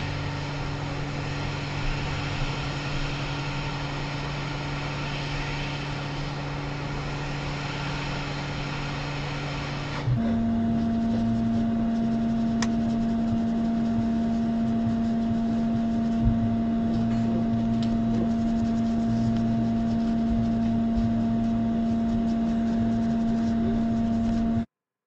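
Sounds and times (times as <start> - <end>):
electric hum: 0.0 - 24.7.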